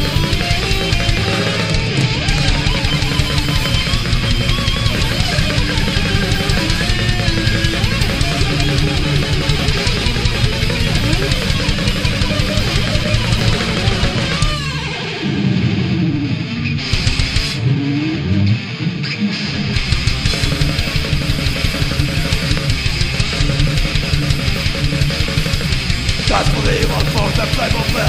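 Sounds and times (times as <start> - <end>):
fast drums: 0.0 - 14.8, 16.9 - 17.6, 19.8 - 28.0
bass guitar: 0.0 - 28.0
distorted electric guitars: 0.0 - 28.0
guitar sliding bending notes: 0.0 - 28.0.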